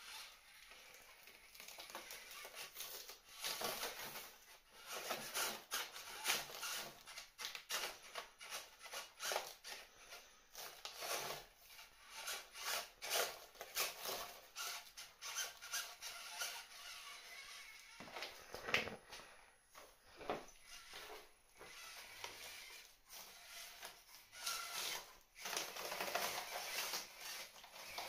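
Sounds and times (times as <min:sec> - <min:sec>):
toy car tyres crackling and scraping: 0:00.0 - 0:19.2, 0:19.8 - 0:28.0.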